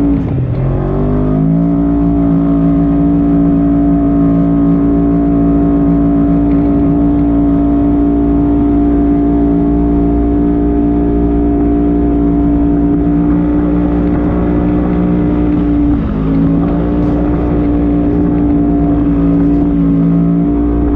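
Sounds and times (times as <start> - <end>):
motor buzzing at high speed: 1.4 - 20.9.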